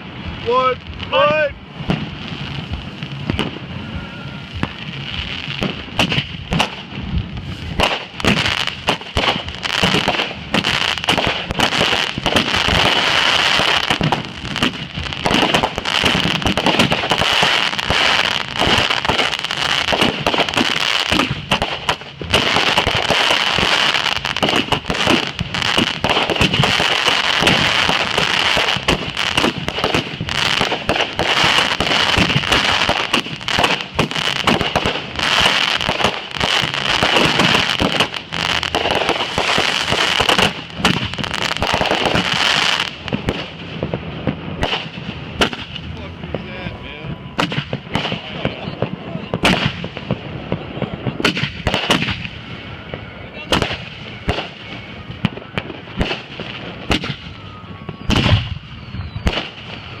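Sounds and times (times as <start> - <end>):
fireworks popping and crackling: 0.0 - 60.0.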